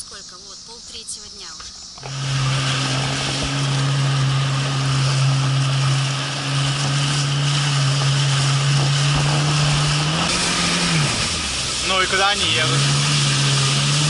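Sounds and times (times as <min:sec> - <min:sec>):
jet ski engine hum: 0:00.0 - 0:14.0
water spray hissing: 0:00.0 - 0:14.0.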